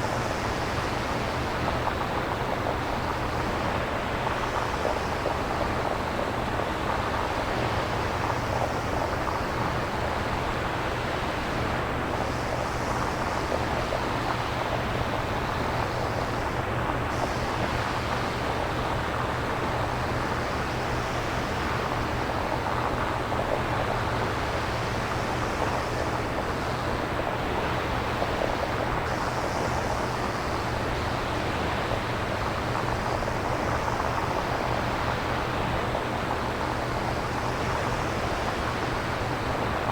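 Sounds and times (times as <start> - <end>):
synthesized surf-like hiss: 0.0 - 39.9.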